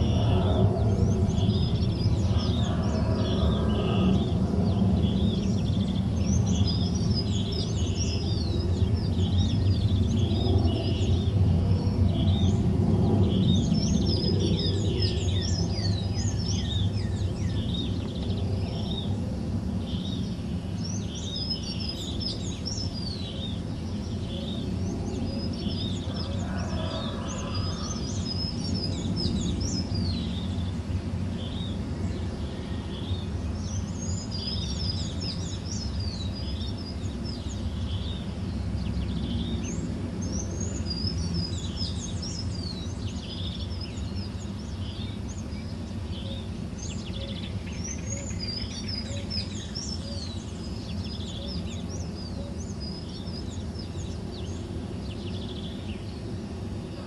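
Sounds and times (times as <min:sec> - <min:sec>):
low background rumble: 0:00.0 - 0:57.0
small birds chirping: 0:00.0 - 0:57.0.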